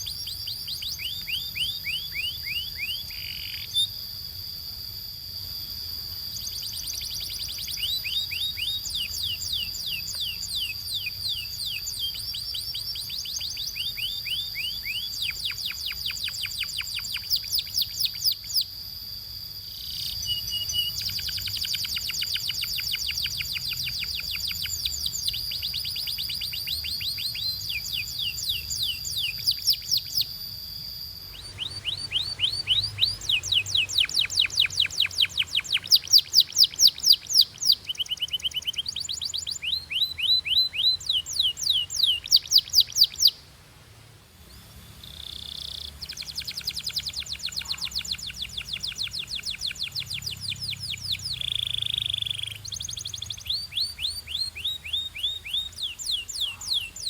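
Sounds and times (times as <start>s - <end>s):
canary singing trills: 0.0s - 43.4s, 44.4s - 57.0s.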